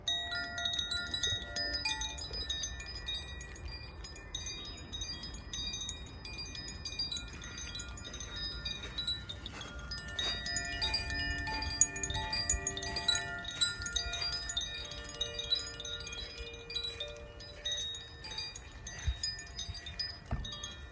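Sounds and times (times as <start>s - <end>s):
chime tinkling: 0.0s - 20.9s.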